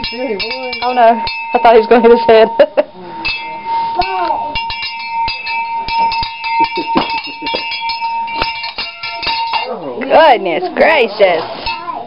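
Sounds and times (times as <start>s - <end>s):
cowbell clanking: 0.0s - 12.0s.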